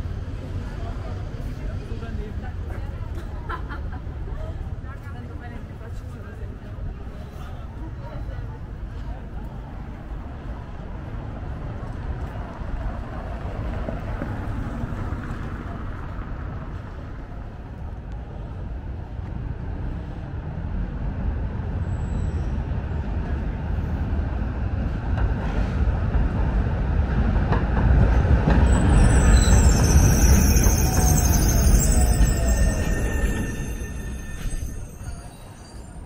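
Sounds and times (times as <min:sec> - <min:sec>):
passing vehicle rumble: 0:04.0 - 0:36.0.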